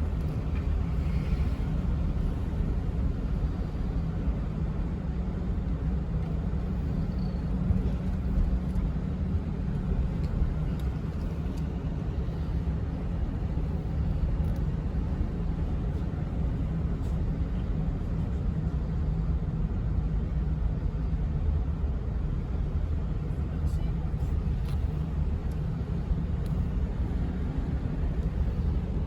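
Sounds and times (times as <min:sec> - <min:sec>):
car engine rumble: 0:00.0 - 0:29.0
road noise: 0:00.0 - 0:29.0.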